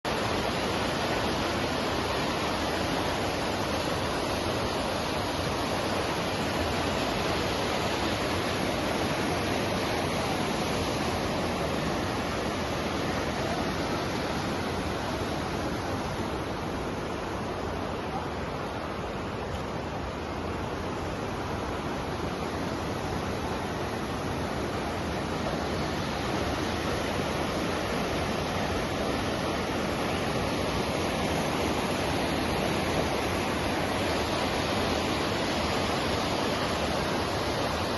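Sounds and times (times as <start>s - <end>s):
fast-flowing water rushing: 0.0s - 37.9s.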